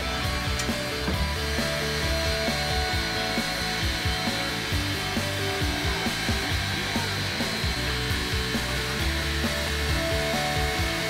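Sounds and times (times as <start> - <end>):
music with steady beat: 0.0 - 11.0
steam hissing: 0.5 - 11.0.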